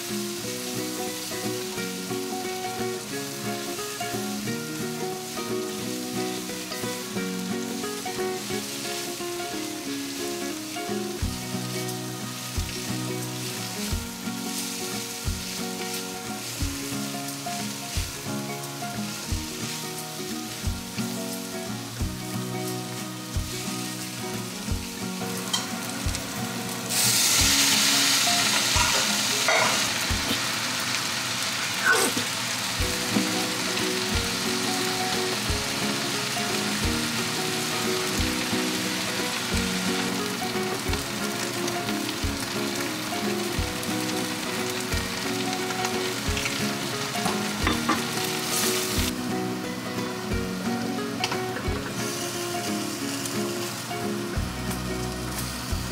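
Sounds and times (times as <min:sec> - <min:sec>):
vegetables sizzling in a wok: 0:00.0 - 0:55.9.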